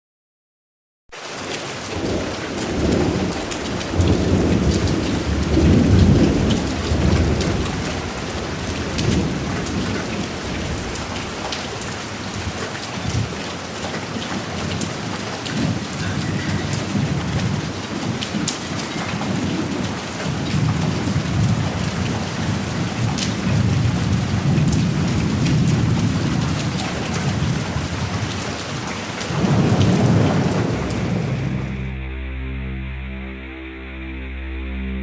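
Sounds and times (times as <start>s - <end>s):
rain pattering on surfaces: 1.1s - 31.9s
rolling thunder: 2.0s - 13.4s, 14.0s - 32.0s.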